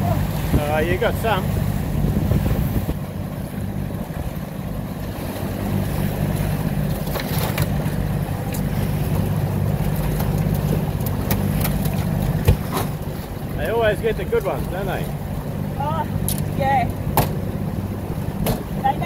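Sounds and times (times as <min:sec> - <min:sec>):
boat engine running: 0:00.0 - 0:19.0
water rushing past hull: 0:00.0 - 0:19.0
wind: 0:00.0 - 0:19.0.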